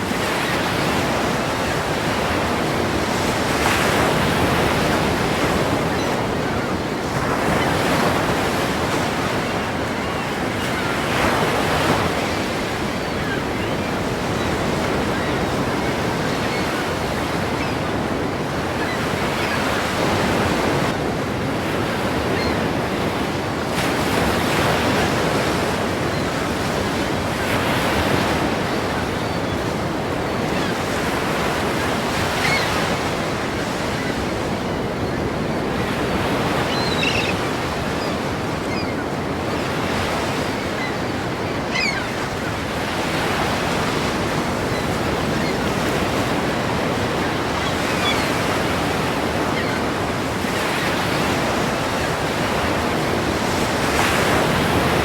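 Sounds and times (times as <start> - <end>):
ocean waves crashing against pier: 0.0 - 55.0.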